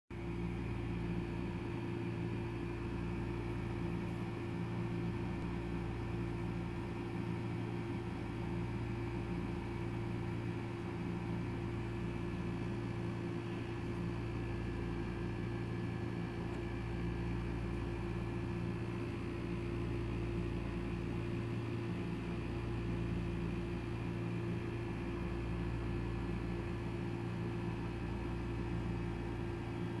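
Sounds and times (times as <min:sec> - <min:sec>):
low mechanical hum: 0:00.2 - 0:30.0.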